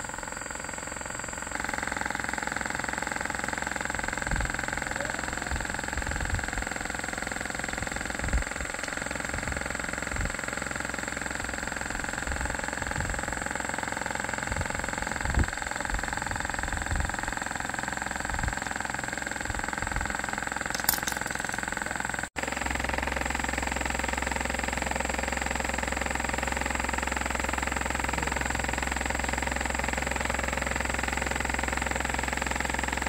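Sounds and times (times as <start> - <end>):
motor humming with high whine: 0.0 - 33.0.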